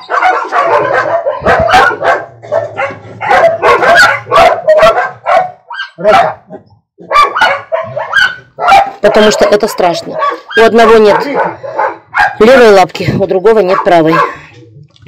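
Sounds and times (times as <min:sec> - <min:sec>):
dog barking: 0:00.0 - 0:12.6, 0:13.6 - 0:14.5.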